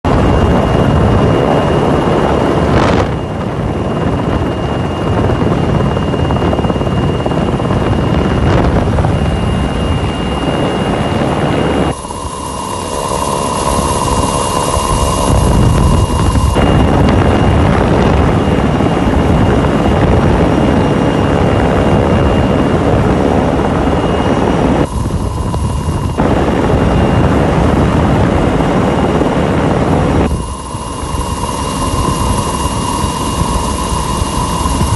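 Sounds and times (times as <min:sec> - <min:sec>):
helicopter rotors and turbine: 0:00.0 - 0:34.9.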